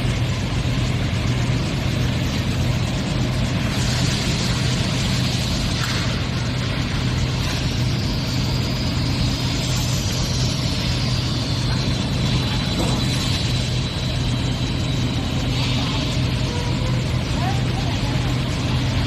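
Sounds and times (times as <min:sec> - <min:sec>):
faint high whine: 0:00.0 - 0:19.0
machinery low hum: 0:00.0 - 0:19.0.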